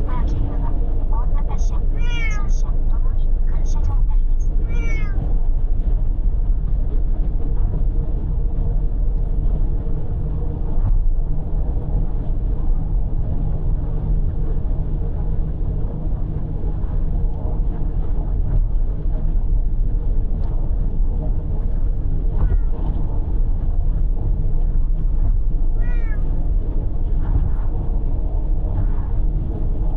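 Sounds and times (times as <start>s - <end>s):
road and tyre rumble: 0.0s - 29.9s.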